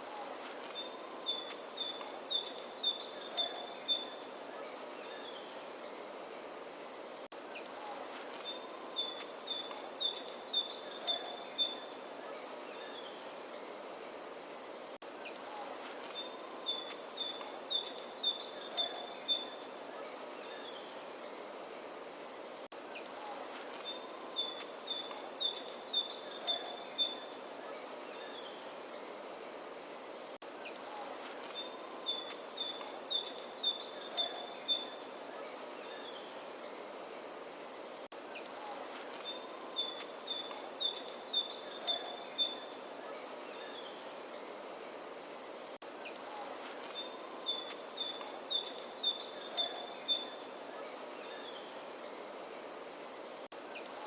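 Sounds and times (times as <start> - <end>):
outdoor background hiss: 0.0 - 54.0
songbird singing: 0.0 - 54.0.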